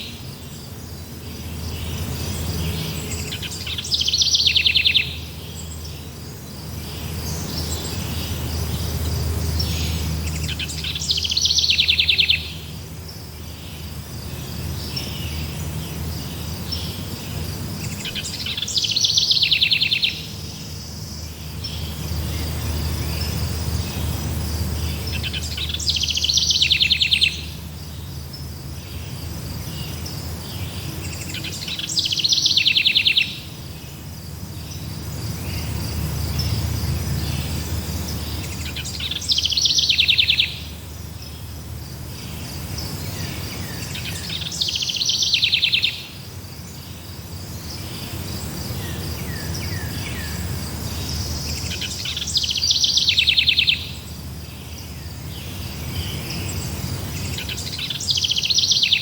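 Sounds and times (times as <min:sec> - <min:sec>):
songbird trilling: 0:00.0 - 0:29.1, 0:29.7 - 0:33.8, 0:34.7 - 0:41.6, 0:42.2 - 0:46.2, 0:47.6 - 0:59.0
insect chirring: 0:00.0 - 0:59.0.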